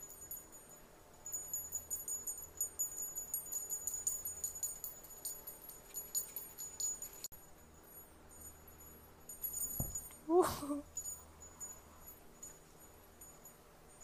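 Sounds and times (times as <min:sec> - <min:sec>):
small bell jingling: 0:00.0 - 0:14.0.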